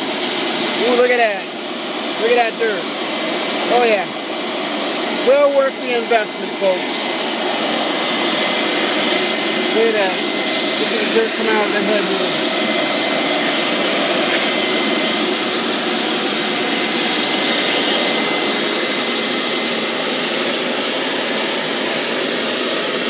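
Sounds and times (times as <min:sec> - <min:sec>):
shampoo vacuum running: 0:00.0 - 0:23.0.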